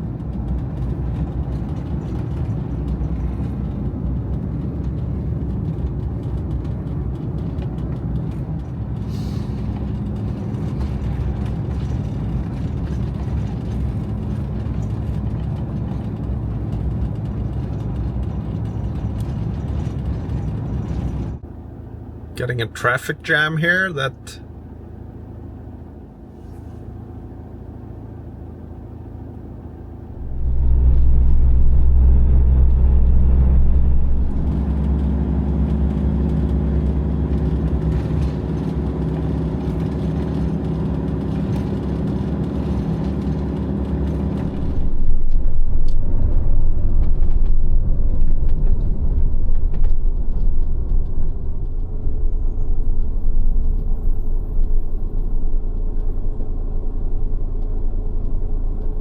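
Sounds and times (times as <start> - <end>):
rough road rumble: 0.0 - 59.0
van engine hum: 0.0 - 59.0.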